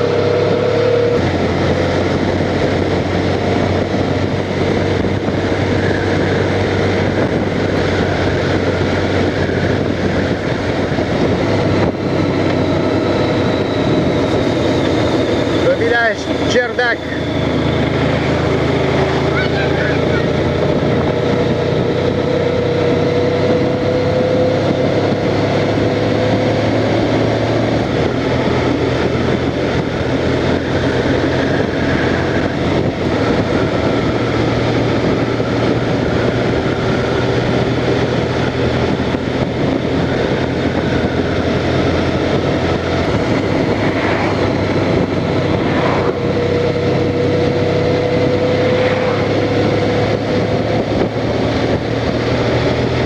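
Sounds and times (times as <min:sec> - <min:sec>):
motorcycle engine running: 0:00.0 - 0:53.0
wind and road noise: 0:00.0 - 0:53.0.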